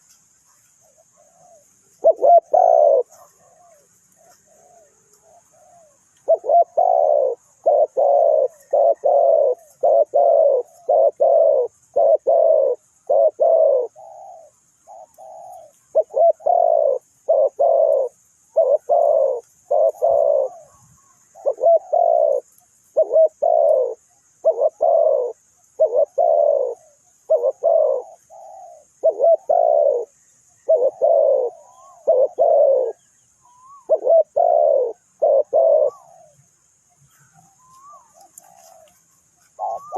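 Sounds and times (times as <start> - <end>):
faint high chirping: 0.0 - 39.9
dove cooing: 0.6 - 36.5, 37.1 - 39.9.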